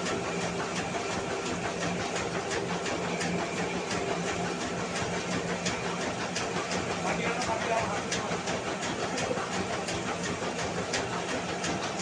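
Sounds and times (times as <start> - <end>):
rice mill running: 0.0 - 12.0.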